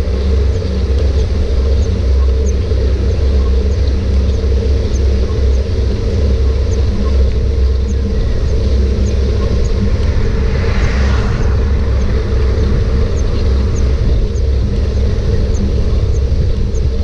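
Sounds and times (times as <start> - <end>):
wind rumble while cycling: 0.0 - 17.0.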